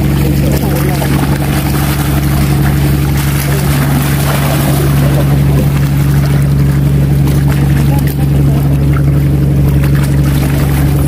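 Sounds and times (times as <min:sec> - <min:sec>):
steady engine drone: 0:00.0 - 0:11.0
water noise: 0:00.0 - 0:11.0.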